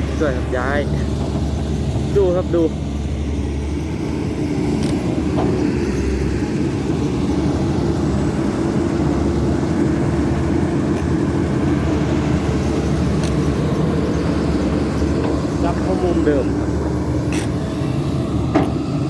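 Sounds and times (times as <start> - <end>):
excavator engine and hydraulics: 0.0 - 19.0.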